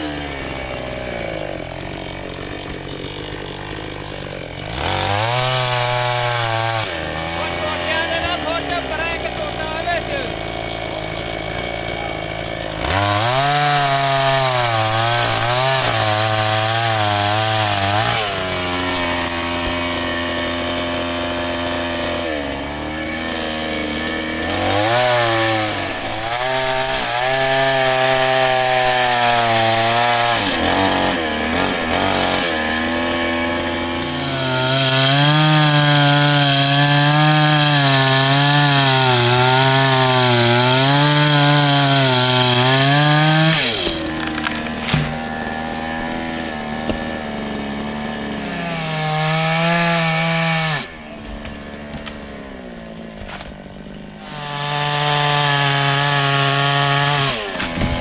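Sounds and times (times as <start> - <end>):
chainsaw cutting a tree: 0.0 - 58.0.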